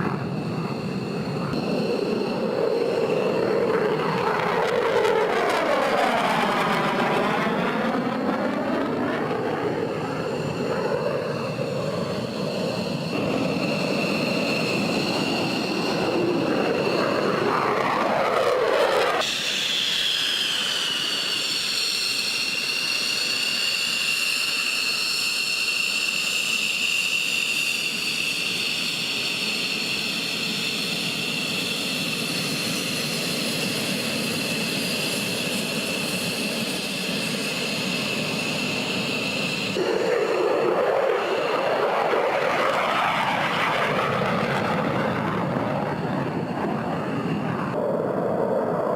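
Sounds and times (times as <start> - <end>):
fighter jet engine: 0.0 - 48.9
high-pitched jet turbine whine: 0.0 - 48.9.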